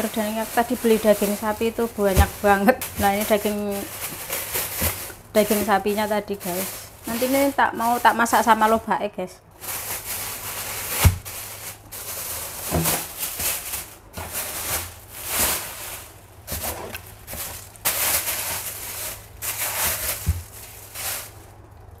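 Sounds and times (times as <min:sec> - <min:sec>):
plastic bags rustling: 0:00.0 - 0:22.0.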